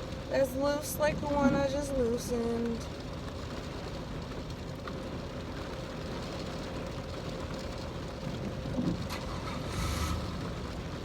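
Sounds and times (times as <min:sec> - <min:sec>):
car interior hum and rumble: 0:00.0 - 0:11.0.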